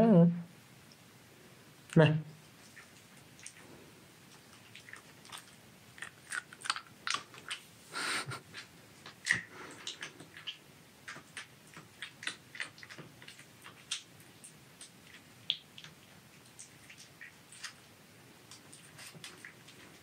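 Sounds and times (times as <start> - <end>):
animal chewing: 2.4 - 20.0.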